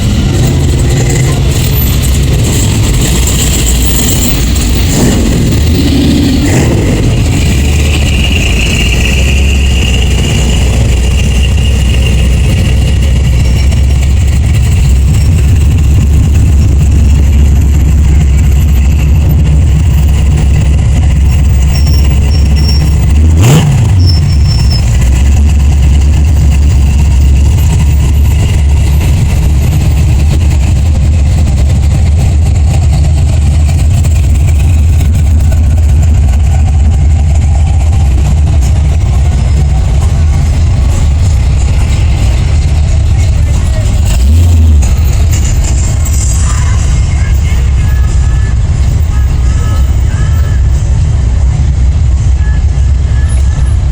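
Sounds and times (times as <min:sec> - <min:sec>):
car engines rumbling: 0:00.0 - 0:53.9.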